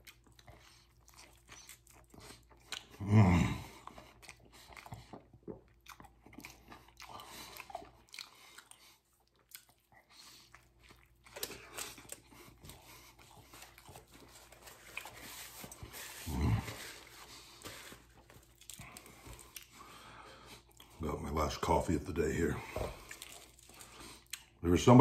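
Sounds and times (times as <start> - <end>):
person chewing food: 0.0 - 21.0, 22.6 - 24.6.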